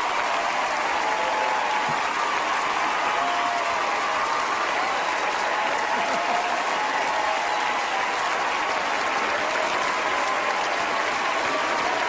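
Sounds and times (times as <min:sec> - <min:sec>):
studio audience applause: 0:00.0 - 0:12.0.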